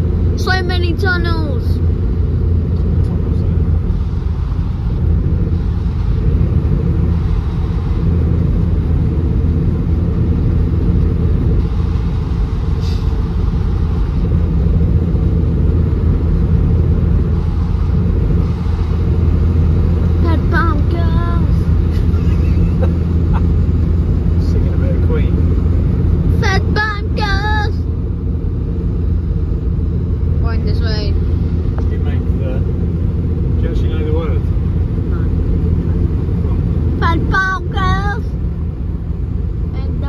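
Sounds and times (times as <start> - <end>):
van road and engine noise: 0.0 - 40.0.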